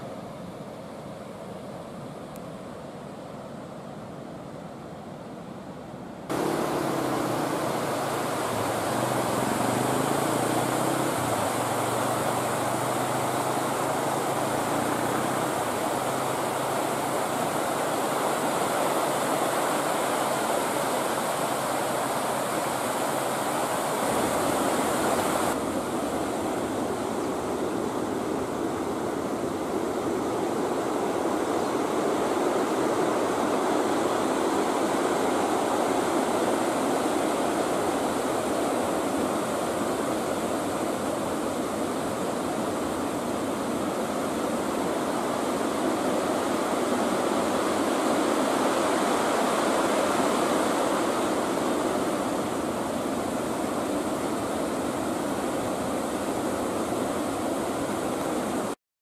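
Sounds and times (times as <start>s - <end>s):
river rushing over rocks: 6.3s - 58.8s.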